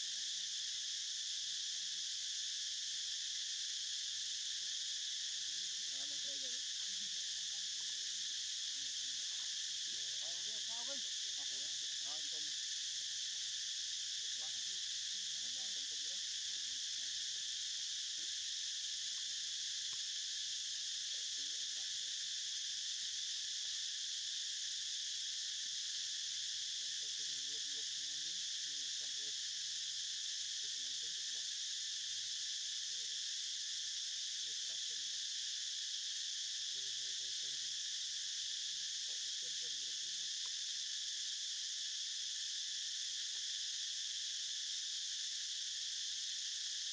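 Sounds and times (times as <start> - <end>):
insect chorus drone: 0.0 - 46.9.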